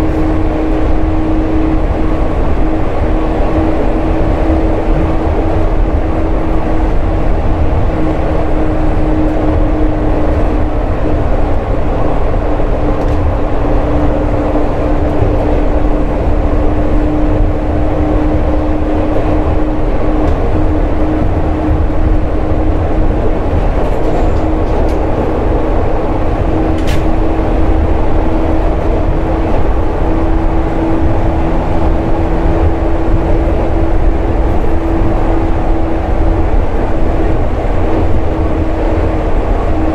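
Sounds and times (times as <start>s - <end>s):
humming running gear: 0.0s - 39.9s
train wheels rumbling on rail: 0.0s - 39.9s.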